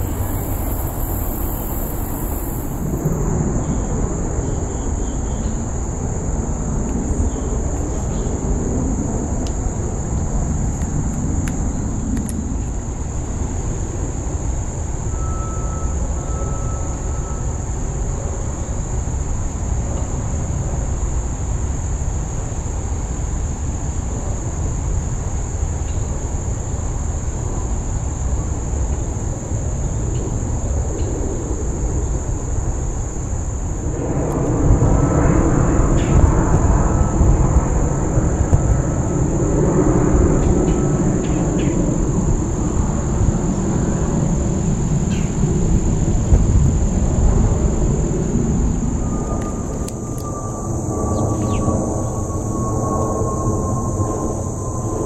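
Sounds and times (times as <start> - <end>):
constant low rumble: 0.0 - 55.0
high-pitched insect trill: 0.0 - 55.0.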